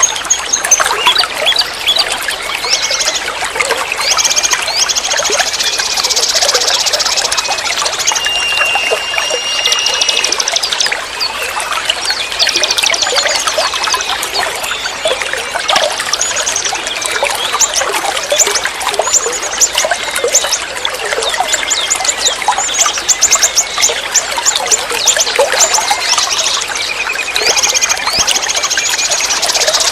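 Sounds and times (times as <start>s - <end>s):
songbirds chirping and trilling: 0.0s - 29.9s
stream trickling: 0.0s - 29.9s.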